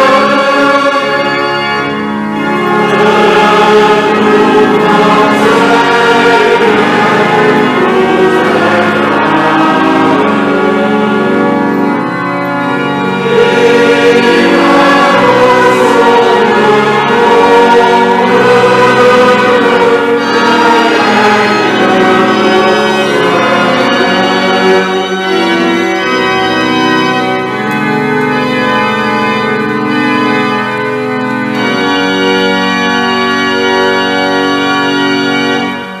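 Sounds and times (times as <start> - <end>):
congregation singing: 0.0 - 36.0
pipe organ playing chords: 0.0 - 36.0.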